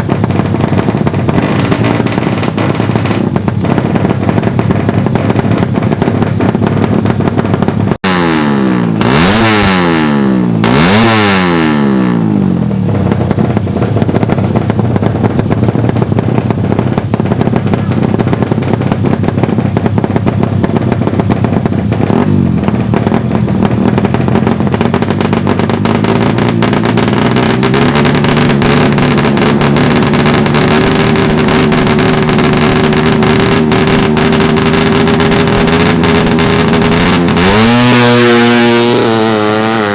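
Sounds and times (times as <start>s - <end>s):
dense engine din: 0.0s - 39.9s
motorbike engines revving hard: 0.0s - 39.9s.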